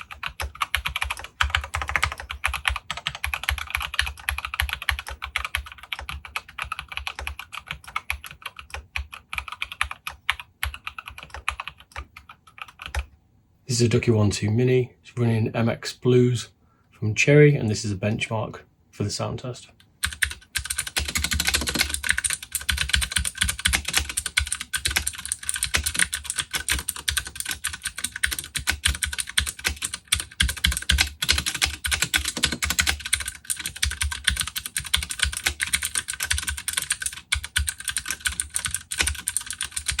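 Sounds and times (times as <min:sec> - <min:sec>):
fast typing on clicky keyboard: 0:00.0 - 0:13.1, 0:20.0 - 0:40.0.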